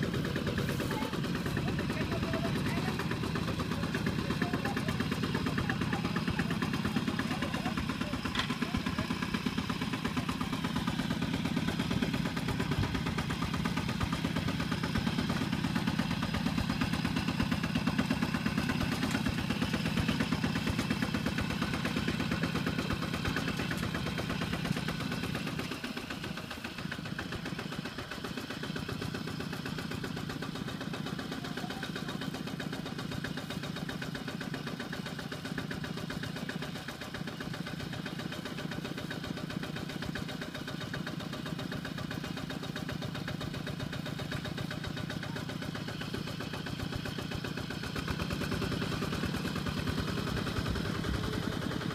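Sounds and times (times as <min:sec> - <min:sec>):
diesel tractor engine running: 0:00.0 - 0:51.9.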